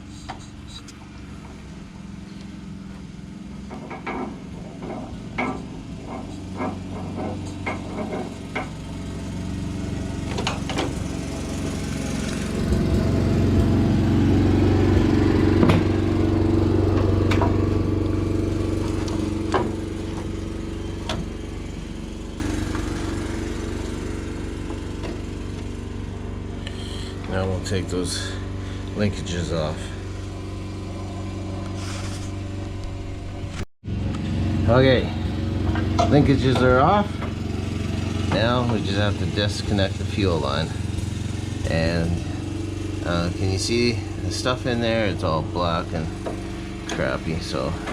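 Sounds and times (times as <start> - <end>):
steady engine hum: 0.0 - 47.9.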